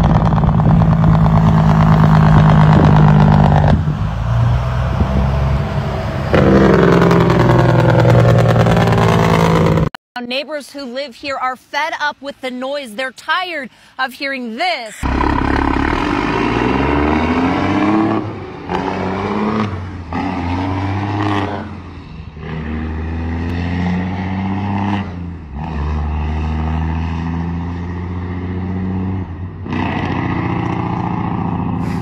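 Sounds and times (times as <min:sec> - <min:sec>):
diesel truck engine accelerating: 0:00.0 - 0:10.0, 0:15.0 - 0:32.0.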